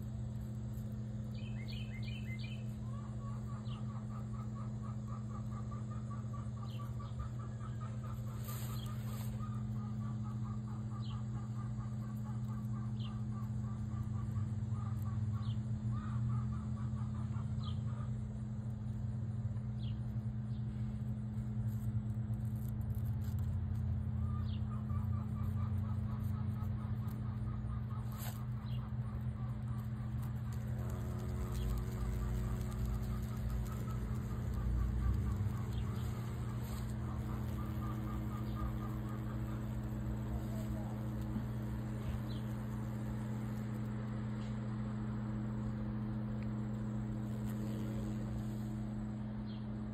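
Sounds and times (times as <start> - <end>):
low hum: 0.0 - 49.9
birds chirping: 1.1 - 18.3, 24.2 - 49.9.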